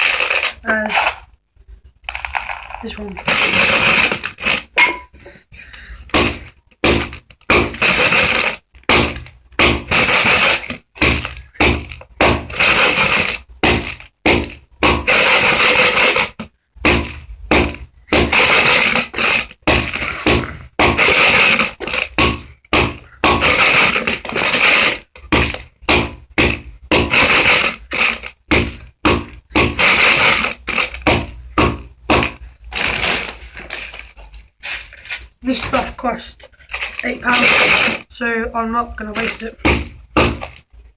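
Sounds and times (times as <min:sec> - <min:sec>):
pellets and shells crunching: 0:00.0 - 0:01.3, 0:02.0 - 0:05.1, 0:06.2 - 0:16.4, 0:17.0 - 0:38.2.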